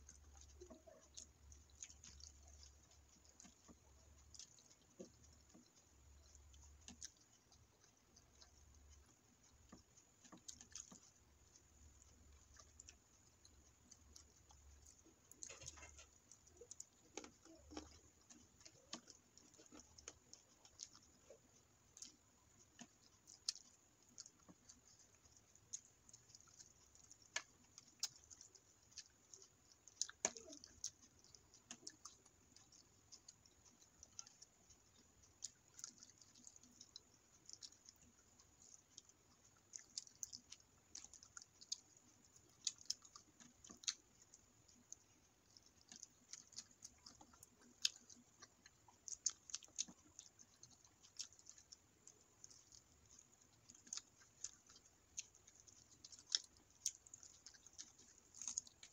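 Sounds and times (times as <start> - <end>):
soft chewing: 0.0 - 58.9
wet mouth clicks: 0.0 - 58.9.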